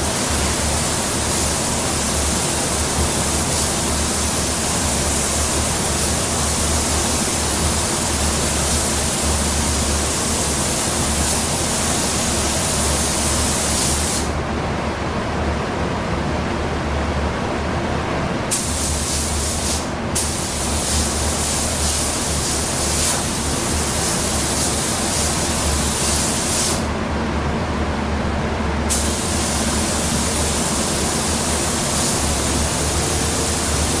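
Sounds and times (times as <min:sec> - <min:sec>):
spray gun hissing: 0:00.0 - 0:14.4, 0:18.5 - 0:26.9, 0:28.9 - 0:34.0.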